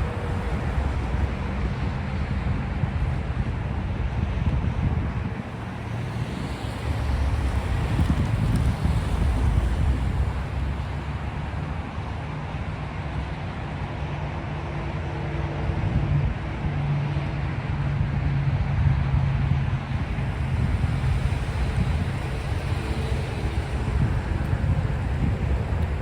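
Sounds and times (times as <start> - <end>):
freight train wheels rumbling: 0.0 - 12.3, 14.3 - 26.0
wind on microphone: 0.0 - 12.6, 14.9 - 26.0.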